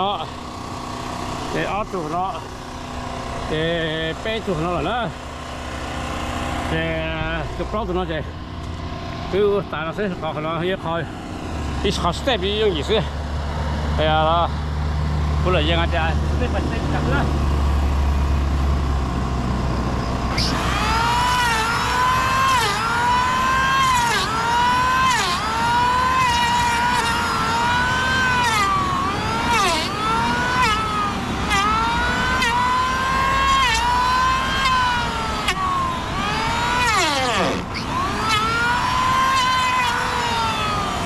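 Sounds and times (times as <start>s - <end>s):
post-hole auger engine revving: 0.0s - 41.0s.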